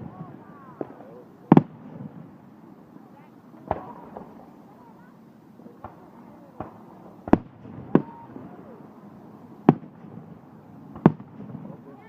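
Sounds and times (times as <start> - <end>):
fireworks bangs: 0.0 - 5.0, 5.6 - 12.0.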